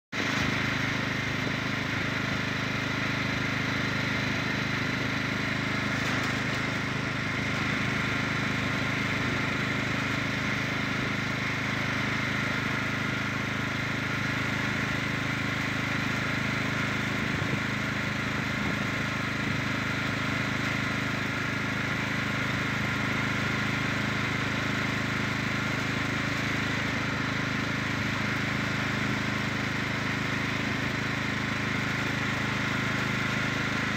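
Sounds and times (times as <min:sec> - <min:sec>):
small motor humming: 0:00.2 - 0:33.9.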